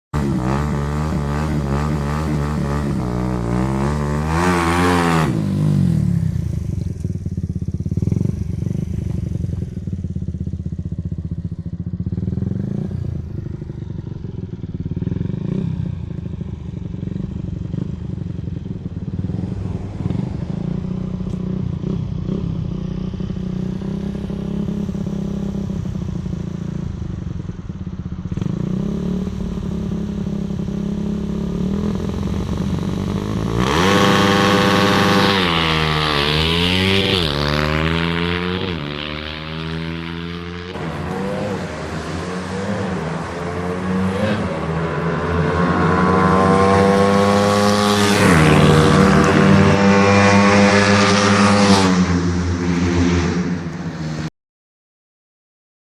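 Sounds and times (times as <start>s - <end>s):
motorcycle engine revving: 0.1s - 54.3s.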